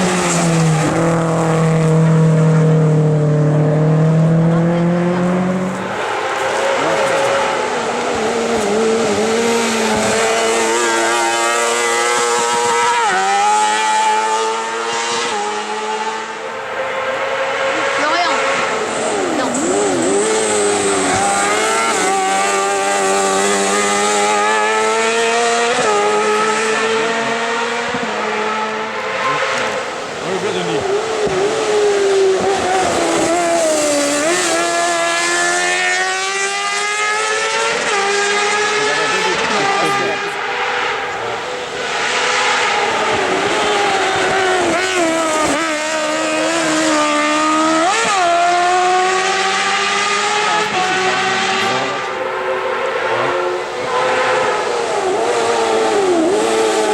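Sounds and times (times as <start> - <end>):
race car engine accelerating: 0.0 - 56.9.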